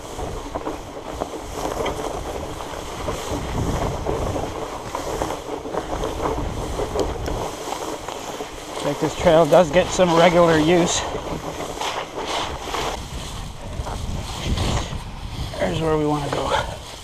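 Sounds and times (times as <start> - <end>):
bike tyres rolling: 0.0 - 17.0
dry grass brushing and crackling: 0.0 - 17.0
wind rumbling on microphone: 0.0 - 17.0.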